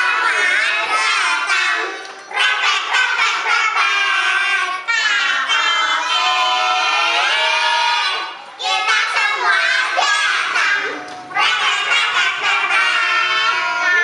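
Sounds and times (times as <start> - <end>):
children singing: 0.0 - 14.0.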